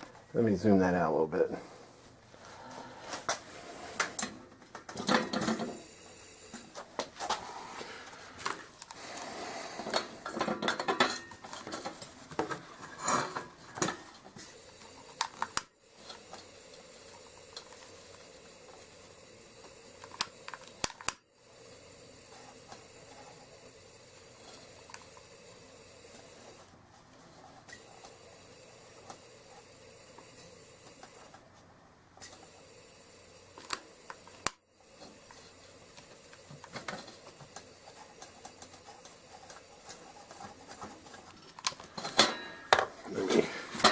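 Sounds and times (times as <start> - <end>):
faint steady hiss: 0.0 - 43.9.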